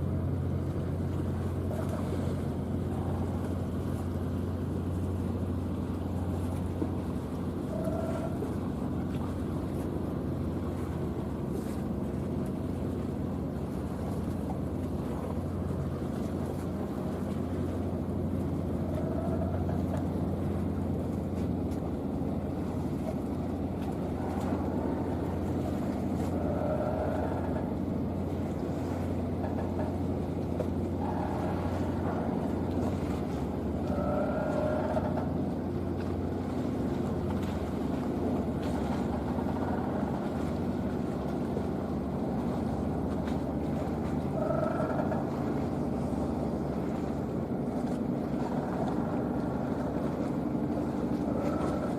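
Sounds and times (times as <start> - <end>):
ship engines humming: 0.0 - 51.9.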